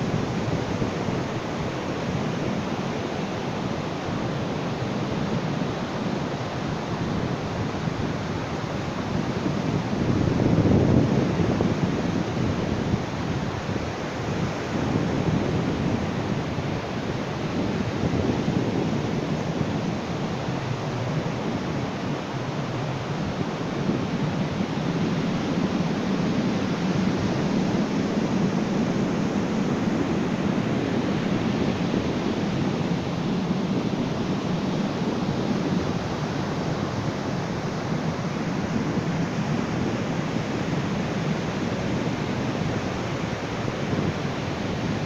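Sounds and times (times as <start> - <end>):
ocean surf washing onto beach: 0.0 - 45.0.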